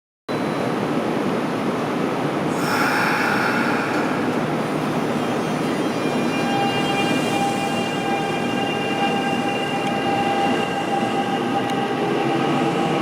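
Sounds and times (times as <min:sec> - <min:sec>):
electric train noise: 0:00.6 - 0:13.0.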